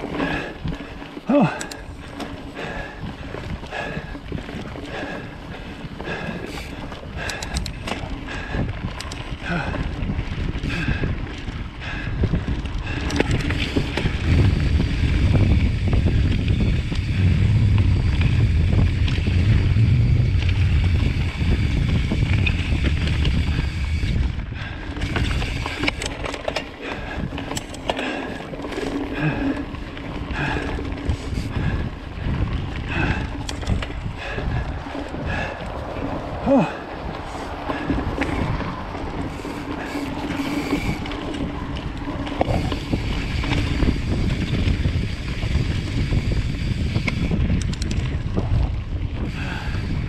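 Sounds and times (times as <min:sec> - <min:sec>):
bike clattering and rattling: 0:00.0 - 0:50.0
mountain bike tyres on dirt: 0:00.0 - 0:50.0
wind buffeting microphone: 0:00.0 - 0:50.0.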